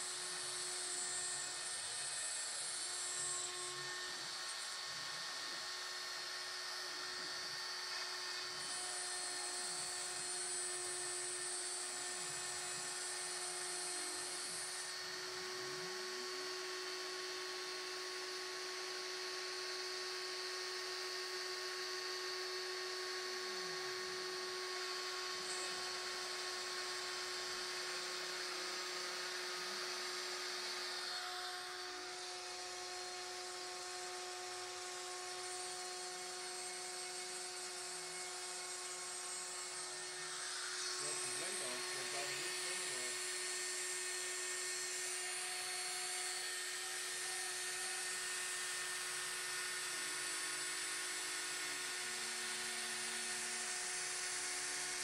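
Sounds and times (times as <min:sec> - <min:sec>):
router spindle whine: 0:00.0 - 0:55.0.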